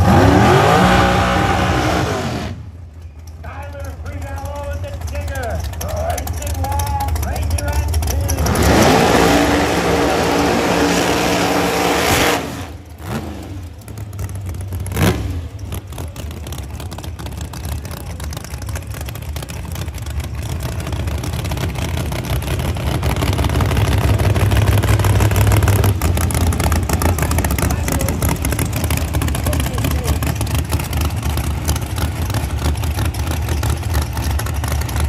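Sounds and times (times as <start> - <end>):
drag racing engines at full throttle: 0.0 - 35.0
low engine rumble: 0.0 - 35.0.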